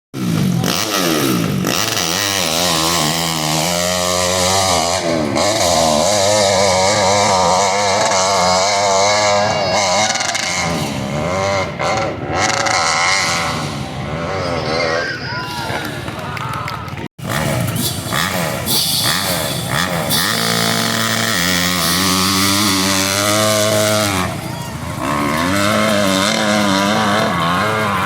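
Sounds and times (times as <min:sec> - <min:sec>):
dirt bike engine revving: 0:00.2 - 0:16.1, 0:17.2 - 0:28.0.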